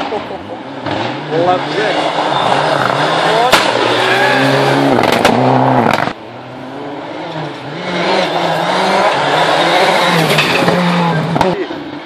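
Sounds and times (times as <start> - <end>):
rally car engine at full throttle: 0.0 - 12.0
rally car engine shifting gears: 0.0 - 12.0.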